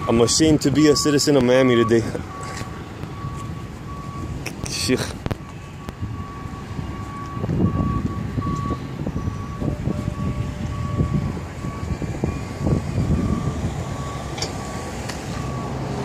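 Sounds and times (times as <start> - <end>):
low rumbling street noise: 0.0 - 16.0
reversing alarm beeping: 0.0 - 16.0.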